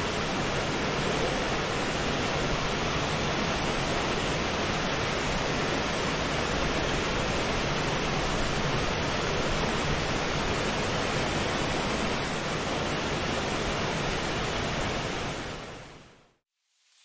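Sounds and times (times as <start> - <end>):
water rushing: 0.0 - 15.9.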